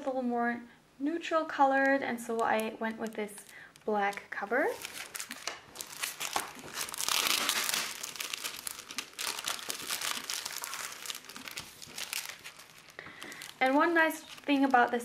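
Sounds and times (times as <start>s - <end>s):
plastic bag crinkling: 2.3s - 15.0s.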